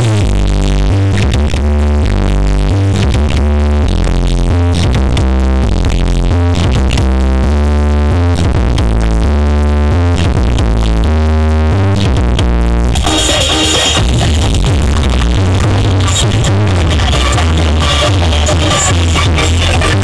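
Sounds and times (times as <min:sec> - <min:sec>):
electronic dance music: 0:00.0 - 0:20.0.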